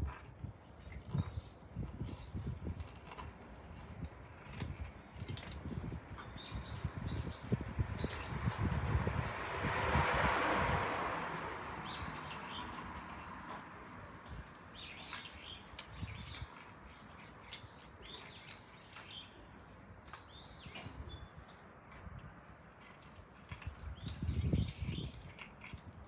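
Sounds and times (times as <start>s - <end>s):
small birds chirping: 0.0s - 9.0s, 11.6s - 26.0s.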